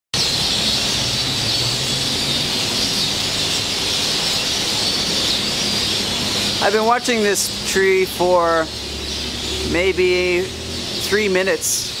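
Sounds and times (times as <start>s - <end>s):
flock of birds chattering: 0.2s - 12.0s.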